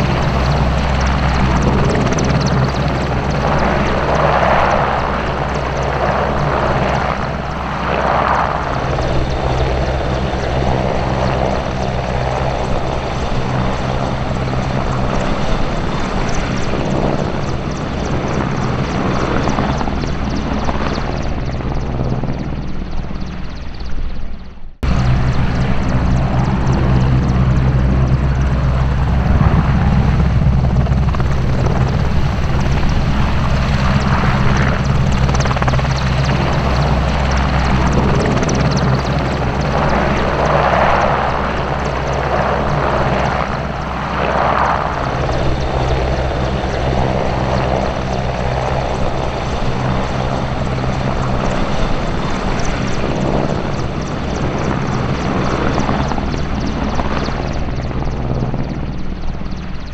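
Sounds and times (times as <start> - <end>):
helicopter rotor and turbines: 0.0 - 59.9.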